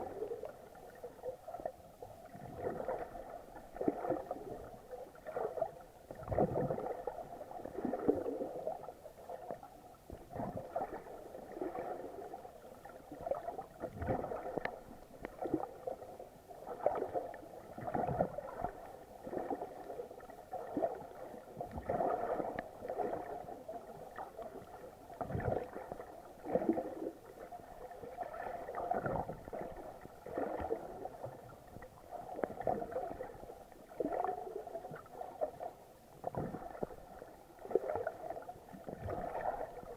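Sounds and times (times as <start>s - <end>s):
muffled water sloshing: 0.0s - 39.9s.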